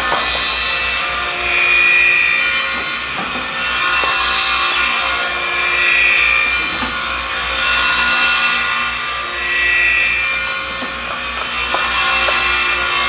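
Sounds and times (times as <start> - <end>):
circular saw blades whining: 0.0 - 13.0
saw cutting wood: 0.0 - 13.0.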